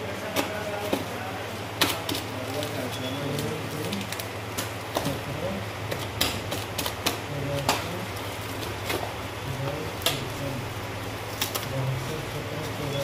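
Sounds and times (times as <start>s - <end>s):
low steady hum: 0.0s - 13.0s
plastic wrapping ripping: 1.8s - 13.0s.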